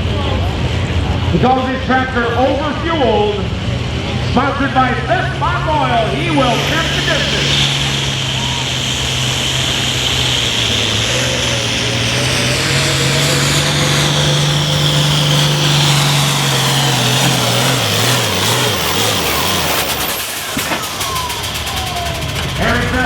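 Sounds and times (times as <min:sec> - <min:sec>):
diesel tractor engine under load: 0:00.0 - 0:23.0
high turbo whine: 0:00.0 - 0:23.0.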